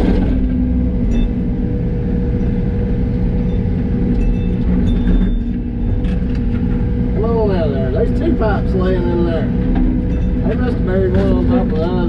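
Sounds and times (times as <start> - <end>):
excavator diesel engine and hydraulics: 0.0 - 12.0.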